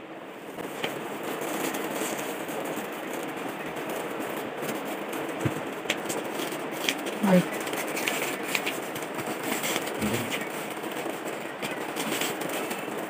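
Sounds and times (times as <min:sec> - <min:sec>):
plastic wrapping crinkling: 0:00.6 - 0:13.0.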